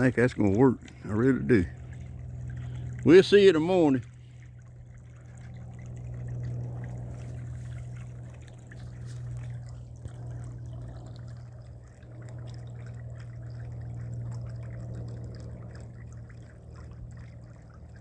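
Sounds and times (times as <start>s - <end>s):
electric water pump humming: 0.0s - 18.0s
water trickling and splashing: 0.0s - 18.0s.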